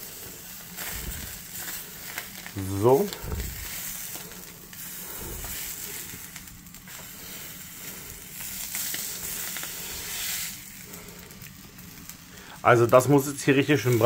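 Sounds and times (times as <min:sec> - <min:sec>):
sausages sizzling in a pan: 0:00.0 - 0:14.0.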